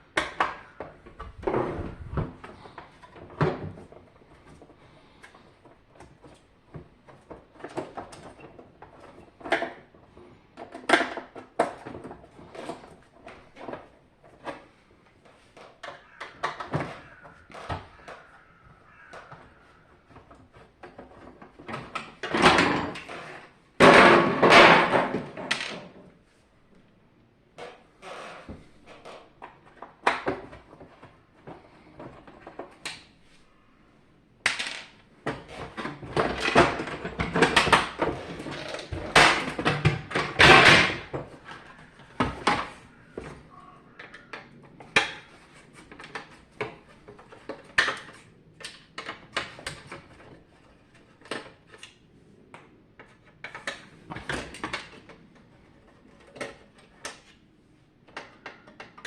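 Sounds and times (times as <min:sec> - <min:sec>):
plastic parts clicking and knocking: 0:00.0 - 0:26.1, 0:27.6 - 0:33.2, 0:34.4 - 0:59.0
parts rattling and scraping: 0:00.0 - 0:26.5, 0:34.4 - 0:59.0.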